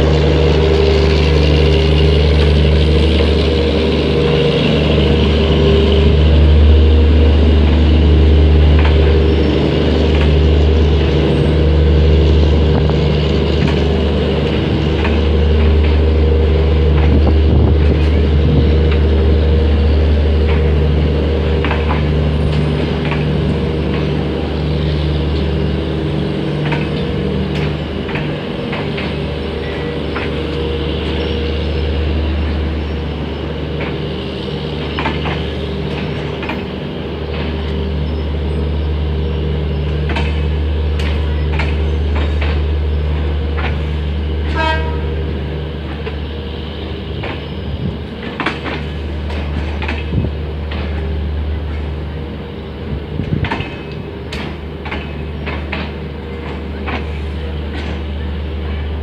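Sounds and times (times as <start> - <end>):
train rumbling: 0.0 - 59.0
wheels clacking over rail joints: 0.0 - 59.0.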